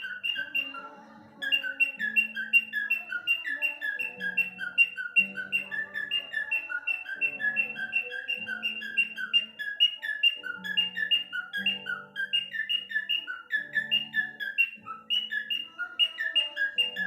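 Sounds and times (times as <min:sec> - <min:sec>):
bird chirping rapidly: 0:00.0 - 0:17.0.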